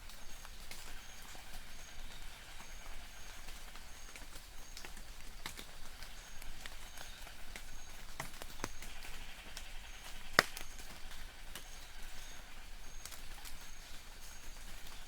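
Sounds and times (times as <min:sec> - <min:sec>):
raindrops tapping on leaves: 0:00.0 - 0:15.0.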